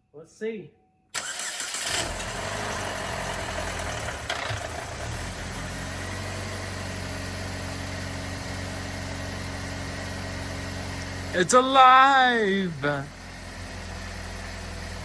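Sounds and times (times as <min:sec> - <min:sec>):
car engine starting and idling: 0:01.1 - 0:15.0.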